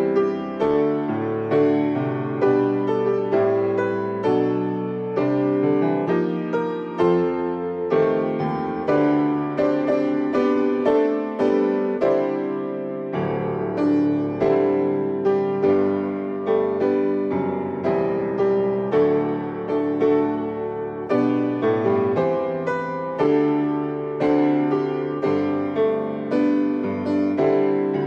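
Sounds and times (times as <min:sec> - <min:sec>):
grand piano playing: 0:00.0 - 0:28.0.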